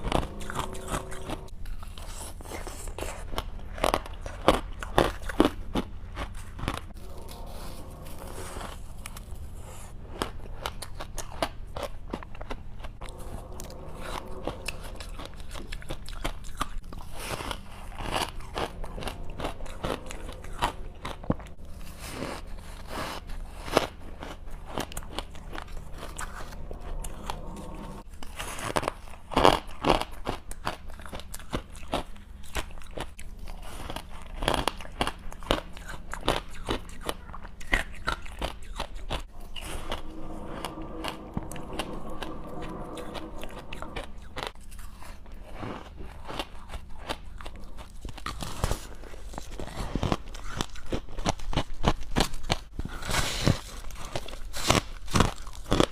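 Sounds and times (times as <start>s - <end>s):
chewing crunchy ice: 0.0s - 39.3s, 44.8s - 55.9s.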